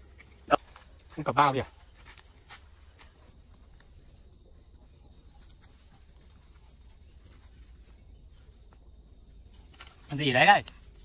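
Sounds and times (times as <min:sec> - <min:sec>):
insect droning high tone: 0:00.0 - 0:11.0.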